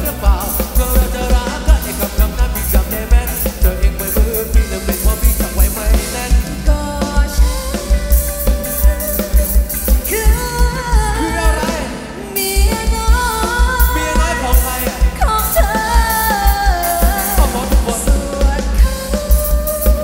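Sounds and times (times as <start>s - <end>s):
person singing melody: 0.0s - 20.0s
steady drum beat: 0.0s - 20.0s.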